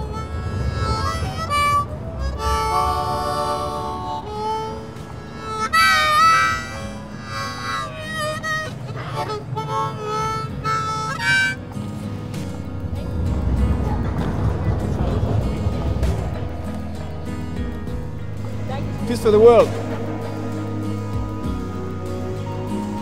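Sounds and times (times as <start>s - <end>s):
harmonica playing: 0.0s - 23.0s.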